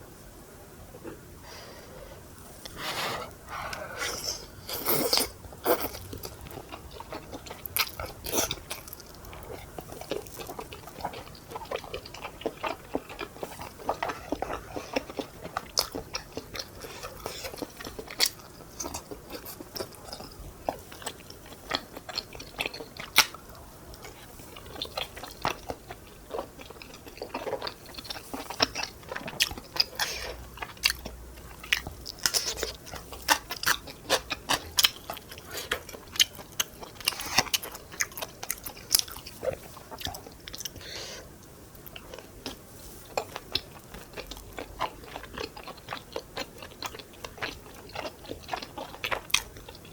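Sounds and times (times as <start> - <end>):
person chewing and crunching: 3.7 - 49.9.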